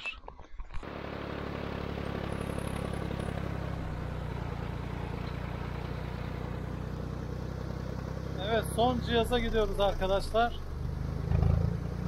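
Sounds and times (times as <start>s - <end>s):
tractor engine running: 0.8s - 12.0s.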